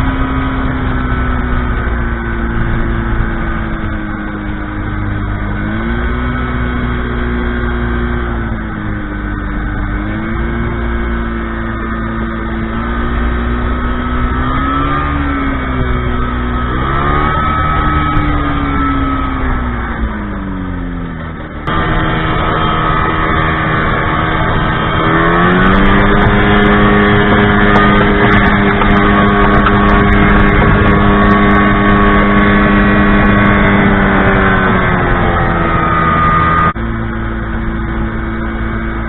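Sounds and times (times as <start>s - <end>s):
ultralight aircraft engine running: 0.0s - 39.0s.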